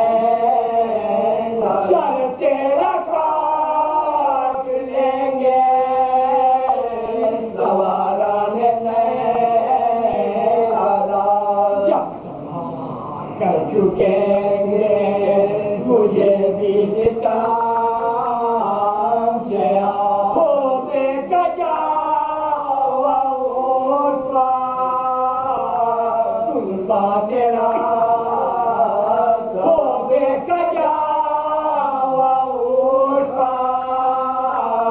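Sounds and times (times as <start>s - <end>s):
men chanting unaccompanied: 0.0s - 34.9s.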